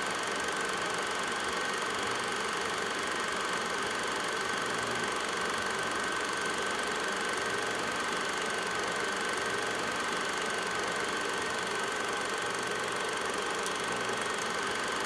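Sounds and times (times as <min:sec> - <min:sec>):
film projector running: 0:00.0 - 0:15.0.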